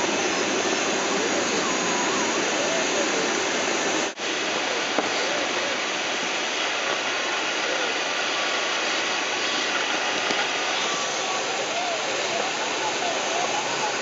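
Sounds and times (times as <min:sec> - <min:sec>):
air rushing over canopy: 0:00.0 - 0:14.0.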